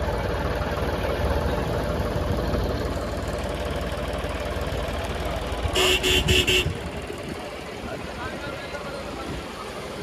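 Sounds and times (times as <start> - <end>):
diesel tractor engine idling: 0.0 - 10.0.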